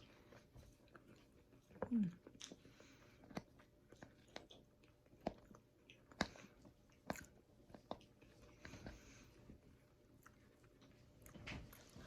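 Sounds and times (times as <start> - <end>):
person chewing fries: 0.0 - 12.0.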